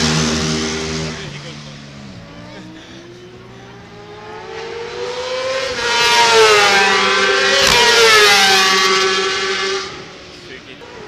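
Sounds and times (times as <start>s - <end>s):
racing motorcycle engine revving: 0.0s - 11.0s.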